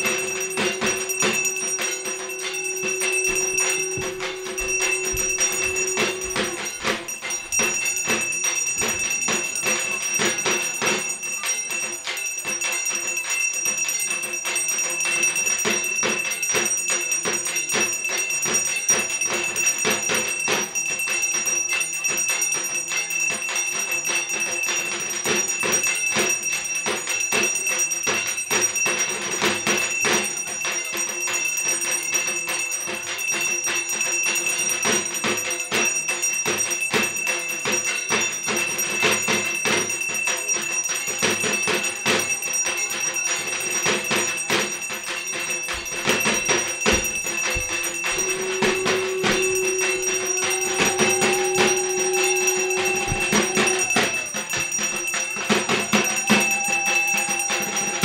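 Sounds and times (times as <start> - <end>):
fast percussion: 0.0 - 58.0
metal bells ringing: 0.0 - 58.0.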